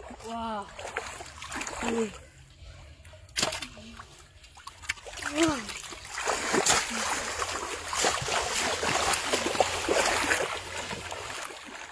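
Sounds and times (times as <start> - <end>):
shallow water splashing: 0.0 - 2.3, 3.3 - 11.9.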